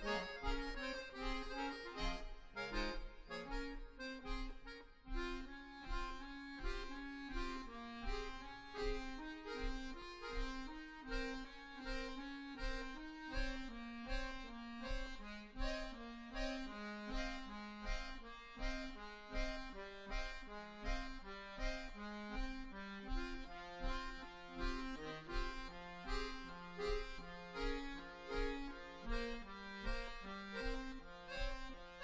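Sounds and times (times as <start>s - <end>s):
accordions playing: 0.0s - 32.0s.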